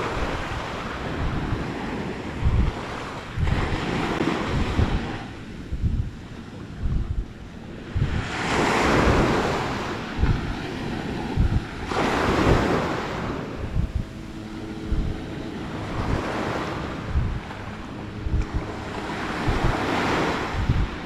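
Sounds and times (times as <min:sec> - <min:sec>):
small waves breaking on sand: 0:00.0 - 0:05.5, 0:07.6 - 0:13.7, 0:14.6 - 0:21.0
wind buffeting microphone: 0:00.0 - 0:21.0.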